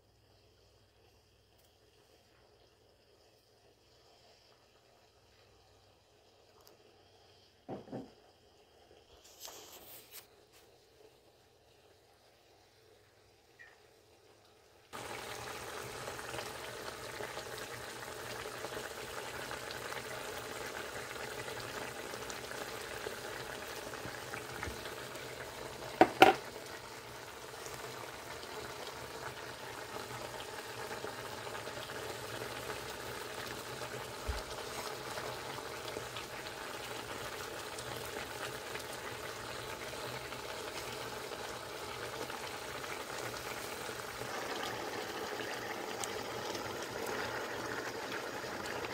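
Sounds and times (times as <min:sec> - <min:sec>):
sauce bubbling and sizzling in pan: 0:00.0 - 0:48.9.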